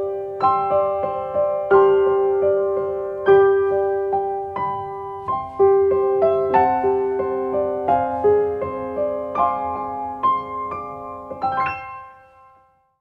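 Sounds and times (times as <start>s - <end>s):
slow gentle piano melody: 0.0s - 13.0s.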